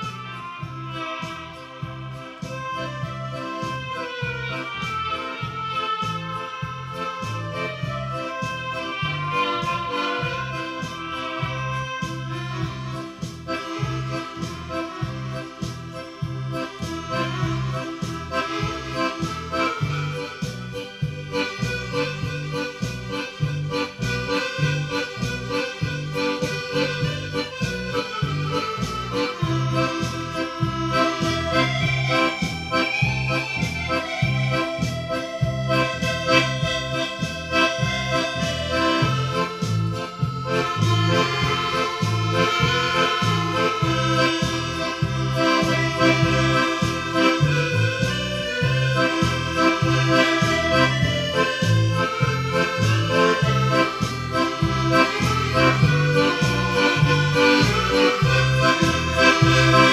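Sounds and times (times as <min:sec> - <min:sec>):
accordion playing a tune: 0:00.0 - 0:59.9
steady bass beat: 0:00.0 - 0:59.9.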